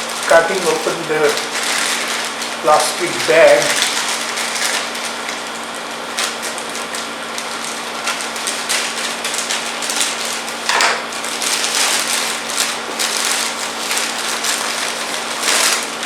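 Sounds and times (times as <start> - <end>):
plastic crinkling and rustling: 0.0 - 16.0.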